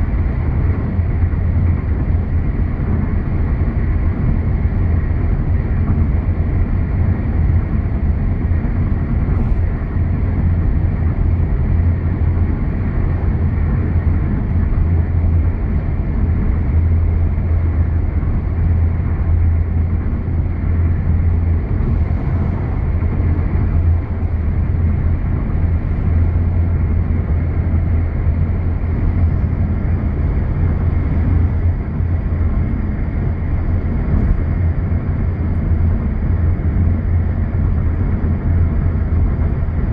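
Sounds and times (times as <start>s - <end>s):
car road and engine drone: 0.0s - 39.9s.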